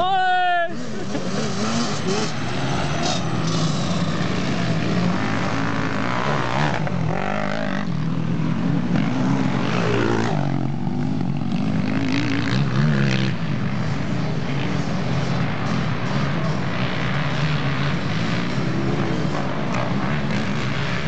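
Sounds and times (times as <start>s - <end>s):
quad bike engine revving: 0.7s - 21.0s.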